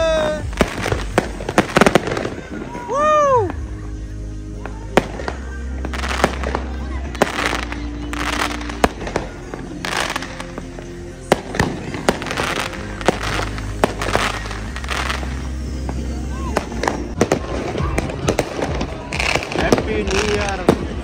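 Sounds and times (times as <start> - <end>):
background music: 0.0 - 21.0
fireworks bangs: 0.0 - 21.0
fireworks crackling: 0.0 - 21.0.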